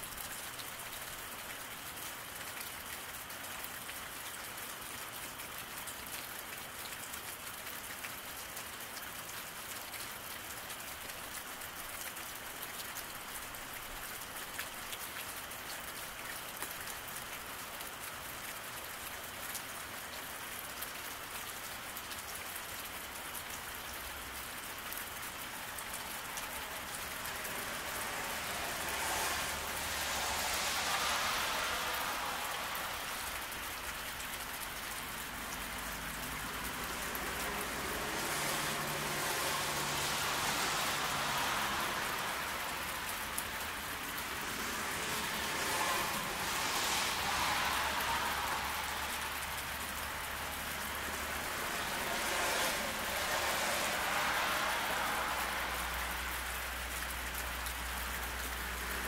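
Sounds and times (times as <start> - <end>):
cars passing on wet pavement: 0.0 - 59.0
rain falling on a road: 0.0 - 59.0.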